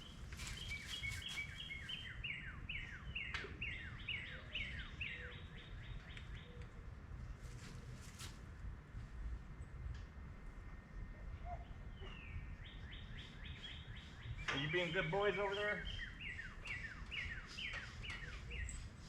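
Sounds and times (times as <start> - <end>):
songbird singing: 0.0 - 8.0, 10.7 - 19.0.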